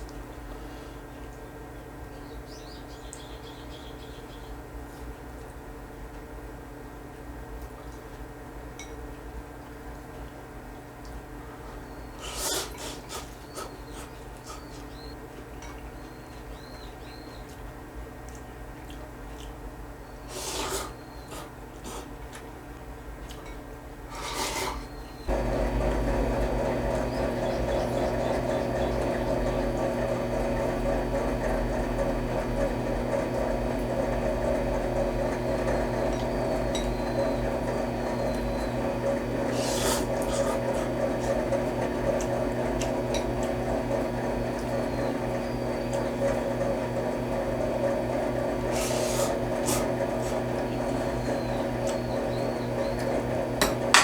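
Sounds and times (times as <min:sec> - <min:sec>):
steady noisy hum: 0:10.6 - 0:54.0.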